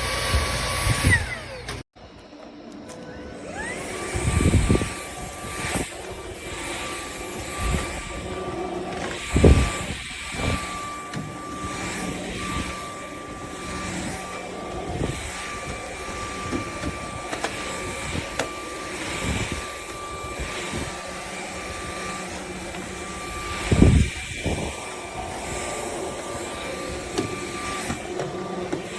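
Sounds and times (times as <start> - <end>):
stick vacuum motor whine: 0.0 - 28.9.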